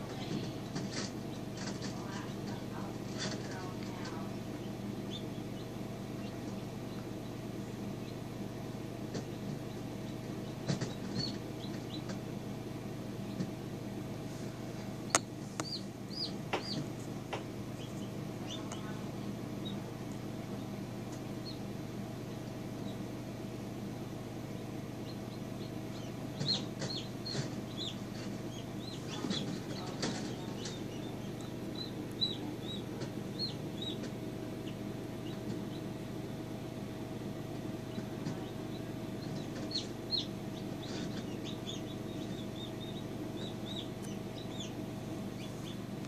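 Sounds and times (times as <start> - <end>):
chicks peeping: 0.0 - 46.0
steady low hum: 0.0 - 46.0.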